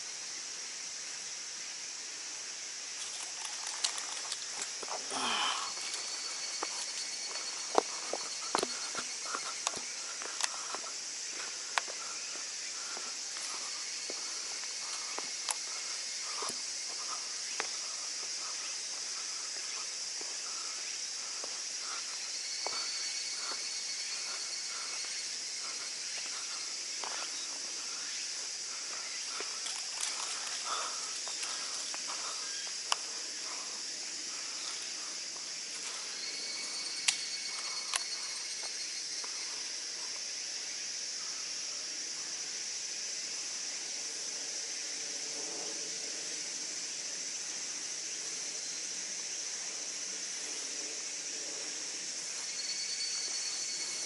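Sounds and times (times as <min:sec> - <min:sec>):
insects chorus hissing: 0:00.0 - 0:54.0.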